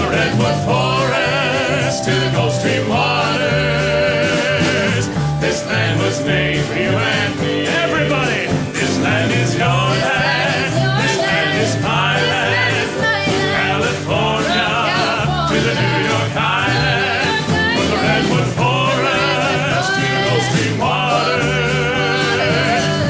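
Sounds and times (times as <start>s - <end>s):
country band music: 0.0s - 23.0s
stepping bass line: 0.0s - 23.0s.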